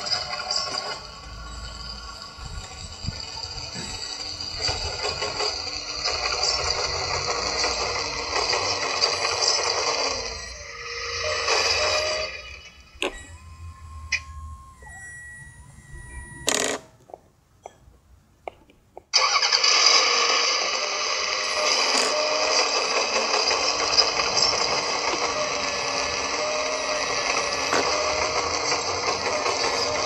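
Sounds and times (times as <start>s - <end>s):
mechanical engine clatter: 0.0s - 13.3s, 19.1s - 30.0s.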